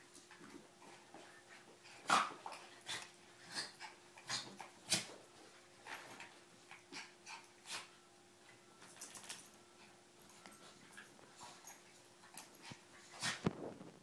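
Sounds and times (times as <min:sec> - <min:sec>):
dogs play-fighting: 0:00.0 - 0:13.6.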